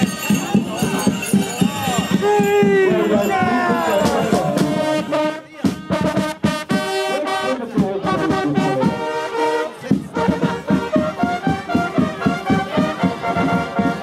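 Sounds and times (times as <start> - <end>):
fanfare trumpets playing a march: 0.0 - 14.0
regular drumbeat: 0.0 - 14.0.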